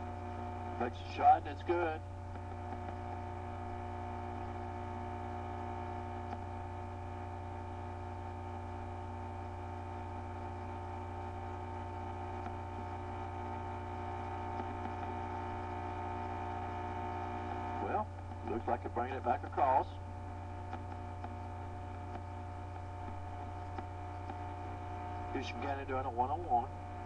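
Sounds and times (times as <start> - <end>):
electrical hum and buzz: 0.0 - 27.0.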